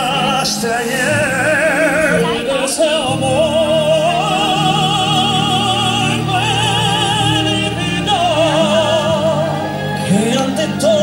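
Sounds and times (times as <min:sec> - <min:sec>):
low musical accompaniment: 0:00.0 - 0:11.0
person singing a ballad: 0:00.0 - 0:11.0.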